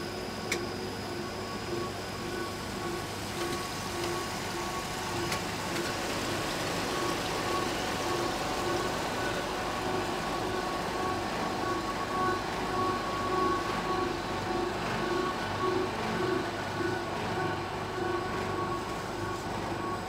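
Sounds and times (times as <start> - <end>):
extrusion machine humming: 0.0 - 20.0.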